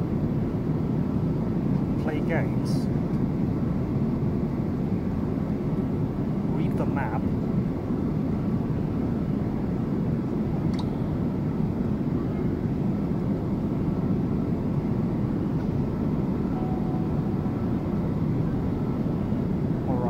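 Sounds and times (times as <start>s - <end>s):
airplane cabin engine noise: 0.0s - 20.0s.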